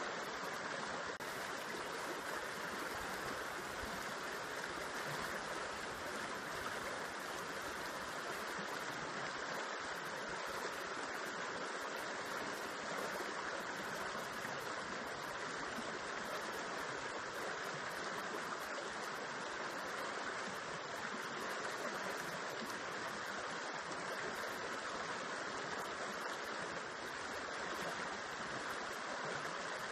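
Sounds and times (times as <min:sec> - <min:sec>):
river water rushing over rocks: 0:00.0 - 0:29.9.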